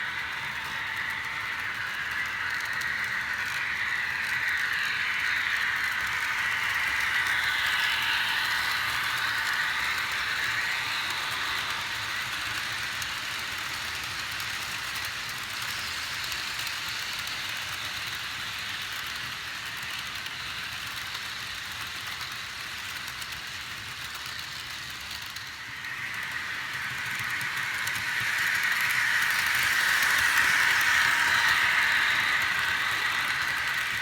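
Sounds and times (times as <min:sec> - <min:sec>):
model trains running on track: 0:00.0 - 0:34.0.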